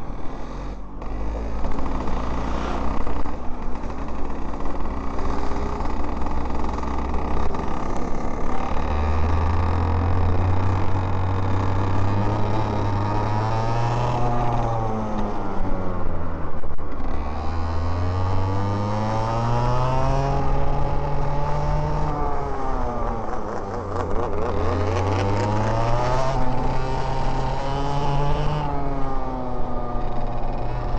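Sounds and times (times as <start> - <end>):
two-stroke kart engine accelerating: 0.0 - 30.9.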